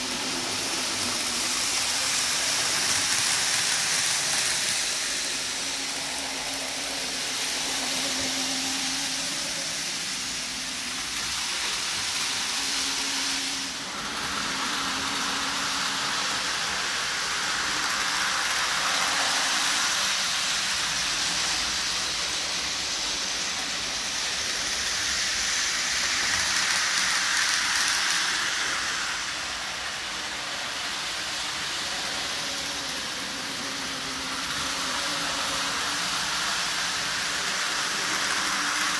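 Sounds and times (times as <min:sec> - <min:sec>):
model train motors whirring: 0:00.0 - 0:38.9.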